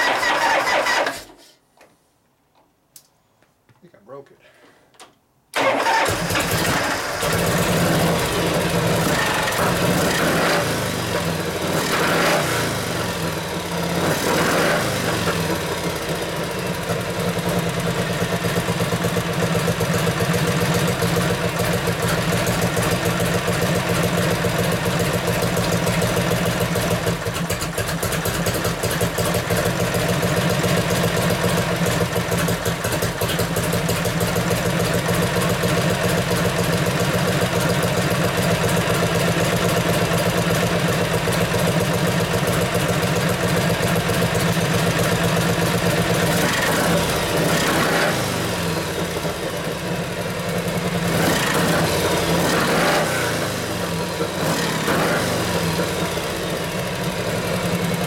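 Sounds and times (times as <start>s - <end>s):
motorcycle engine idling: 7.2s - 11.7s, 12.6s - 14.0s, 14.8s - 52.6s, 53.2s - 58.0s.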